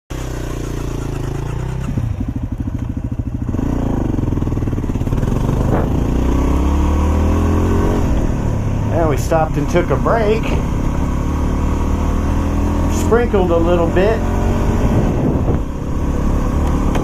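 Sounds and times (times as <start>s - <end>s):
motorcycle engine revving: 0.1s - 17.0s.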